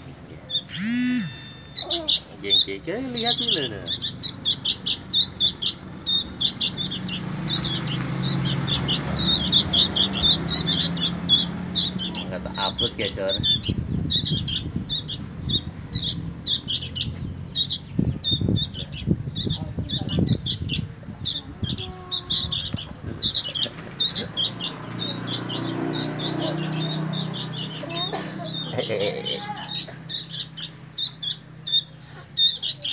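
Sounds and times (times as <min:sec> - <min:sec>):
young birds cheeping: 0:00.0 - 0:32.9.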